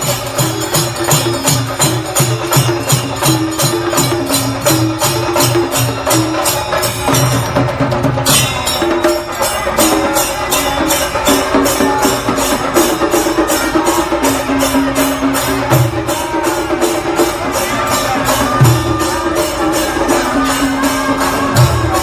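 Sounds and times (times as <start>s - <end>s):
barrel drums beating: 0.0s - 22.0s.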